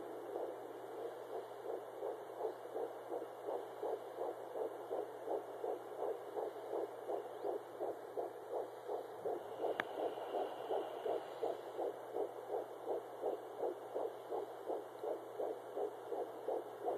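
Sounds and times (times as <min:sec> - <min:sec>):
fast whooshing heartbeat pulse: 0:00.0 - 0:16.9.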